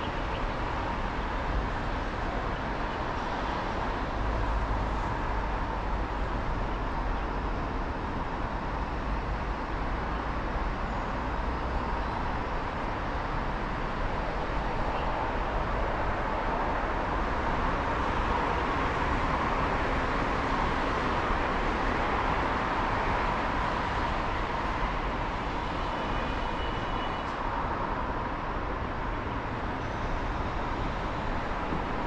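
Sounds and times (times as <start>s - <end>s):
distant road traffic hiss: 0.0s - 32.0s.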